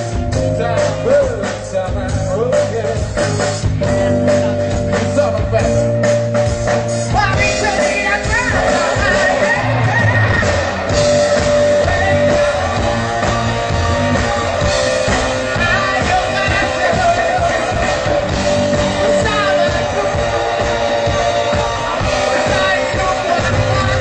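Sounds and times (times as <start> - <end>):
person singing: 0.0 - 6.4, 7.1 - 24.0.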